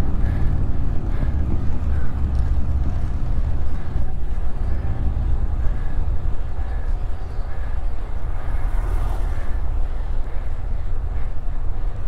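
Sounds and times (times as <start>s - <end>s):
road traffic: 0.0s - 12.0s
wind rumble on microphone: 0.0s - 12.0s.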